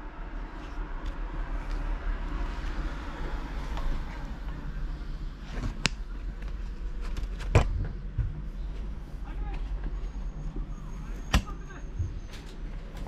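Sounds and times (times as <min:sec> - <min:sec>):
steady low rumble: 0:00.0 - 0:10.9.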